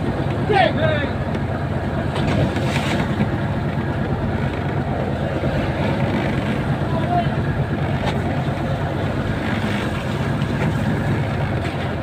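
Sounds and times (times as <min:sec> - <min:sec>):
boat engine running: 0:00.0 - 0:12.0
water and fish splashing: 0:00.0 - 0:12.0.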